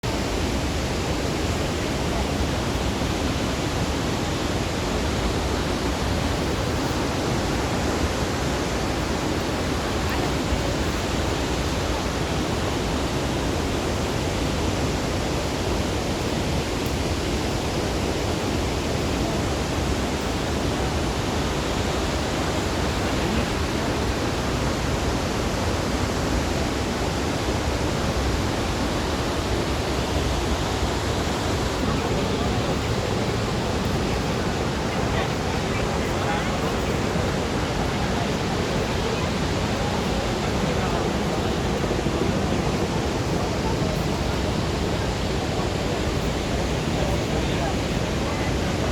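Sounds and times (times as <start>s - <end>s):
large waterfall rushing: 0.0s - 48.9s.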